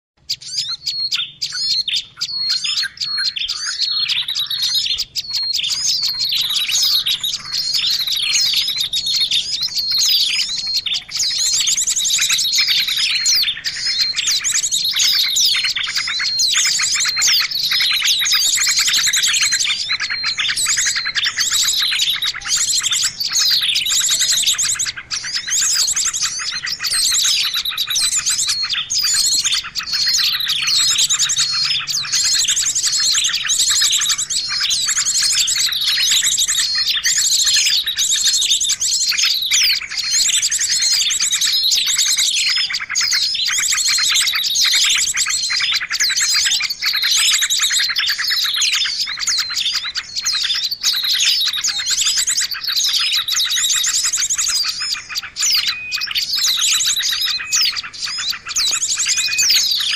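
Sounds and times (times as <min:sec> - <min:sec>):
small songbirds chirping: 0:00.2 - 0:59.9.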